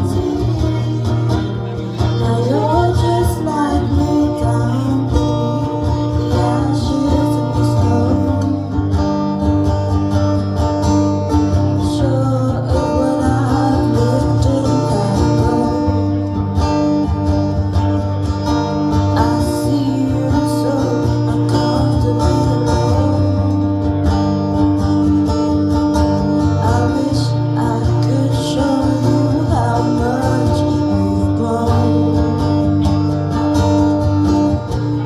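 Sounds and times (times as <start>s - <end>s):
acoustic guitar strumming: 0.0s - 35.0s
sustained bass line: 0.0s - 35.0s.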